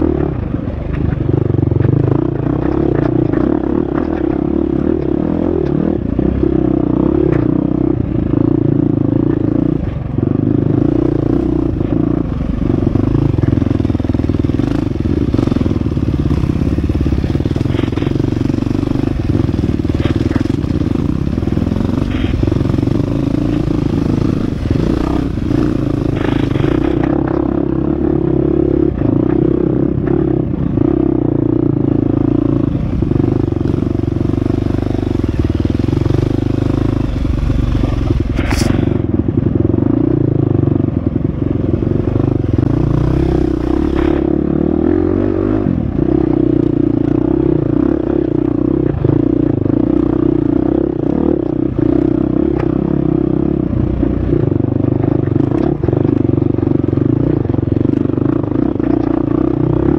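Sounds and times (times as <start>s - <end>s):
dirt bike engine revving: 2.1s - 40.3s, 41.8s - 54.4s.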